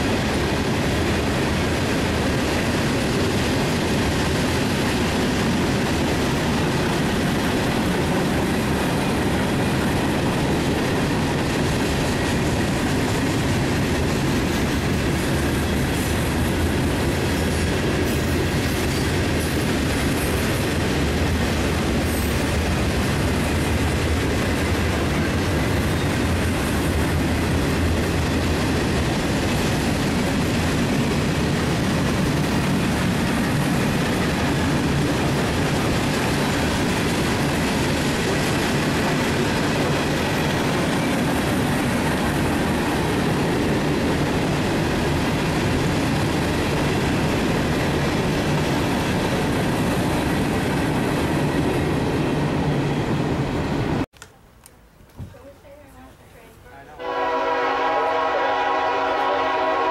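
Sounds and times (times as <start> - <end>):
steel wheels rolling on rail: 0.0 - 54.0.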